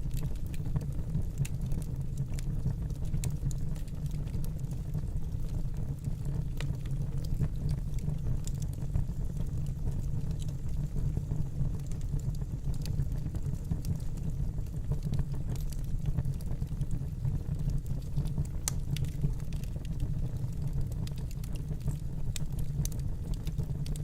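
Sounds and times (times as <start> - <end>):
fire crackling and popping: 0.0 - 24.0
fire flames rumbling: 0.0 - 24.0.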